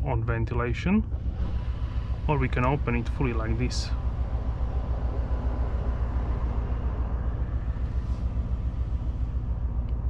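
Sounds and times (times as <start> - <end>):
car engine rumble while cruising: 0.0 - 10.0
road and wind noise: 0.0 - 10.0.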